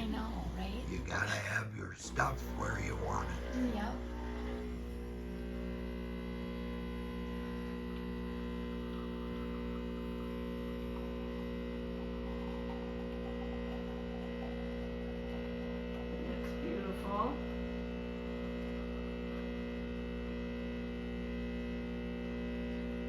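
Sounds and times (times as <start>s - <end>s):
espresso machine pump humming: 0.0s - 23.0s.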